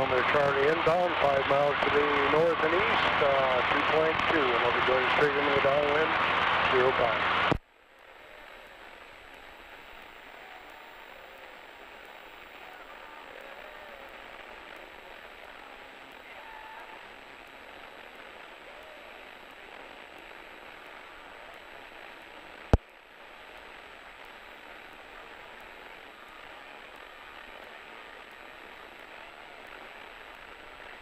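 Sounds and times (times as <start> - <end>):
radio intercom hiss: 0.0 - 7.6, 9.6 - 31.0
plane engine and propeller: 0.0 - 31.0.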